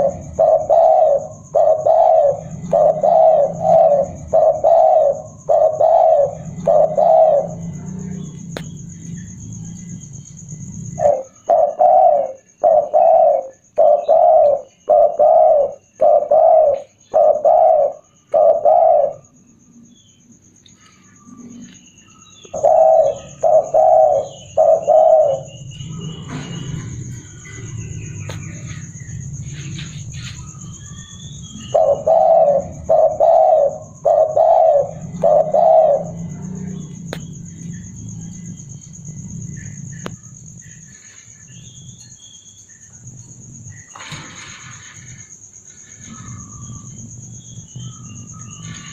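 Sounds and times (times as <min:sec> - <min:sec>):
dove cooing: 0:00.0 - 0:20.2, 0:21.1 - 0:42.4, 0:43.0 - 0:48.9
small birds chirping: 0:00.0 - 0:48.9.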